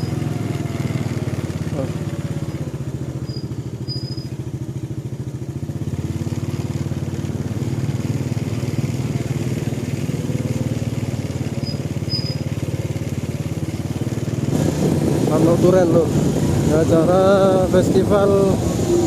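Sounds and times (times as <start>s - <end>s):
engine running with rapid pulse: 0.0s - 19.0s.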